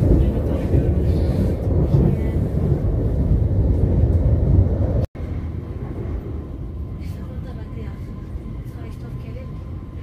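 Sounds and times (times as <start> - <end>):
train rumbling inside carriage: 0.0 - 10.0.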